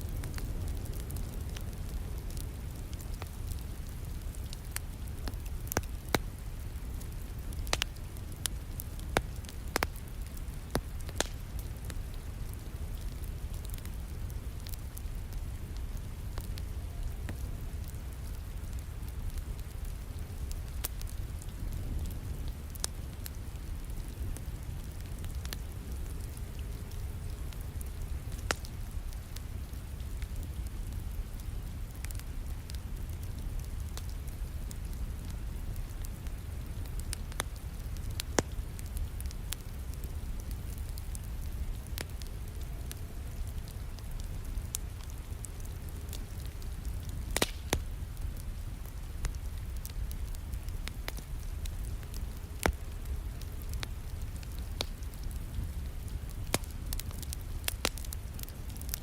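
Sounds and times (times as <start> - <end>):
steady rain: 0.0 - 59.0
wood fire crackling and popping: 0.0 - 59.0.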